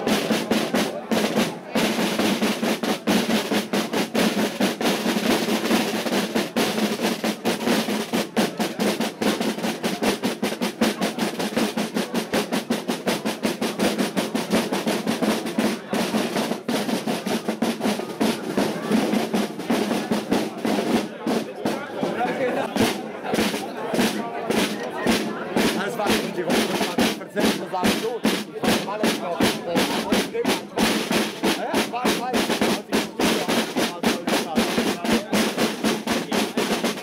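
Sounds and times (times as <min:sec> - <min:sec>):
marching drums playing: 0:00.0 - 0:37.0.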